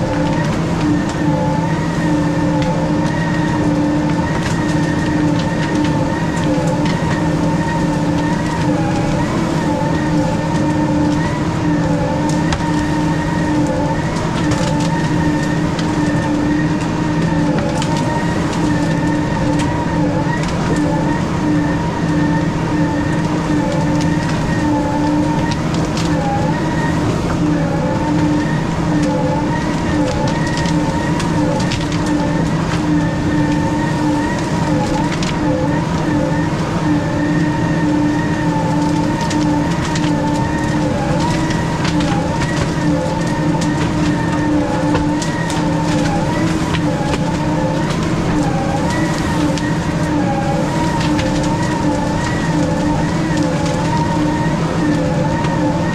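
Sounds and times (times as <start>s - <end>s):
high wavering whine: 0.0s - 55.9s
skidder engine drone: 0.0s - 55.9s.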